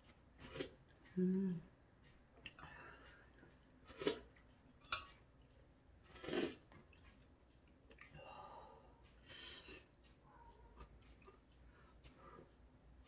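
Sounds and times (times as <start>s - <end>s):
chewing noodles: 0.0s - 8.2s, 9.0s - 13.0s.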